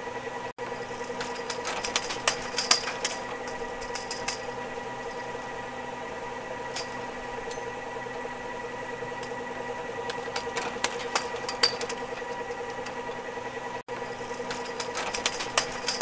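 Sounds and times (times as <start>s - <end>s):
ski lift motor hum: 0.0s - 16.0s
rattling clicks and clanks: 0.6s - 5.7s, 6.5s - 16.0s.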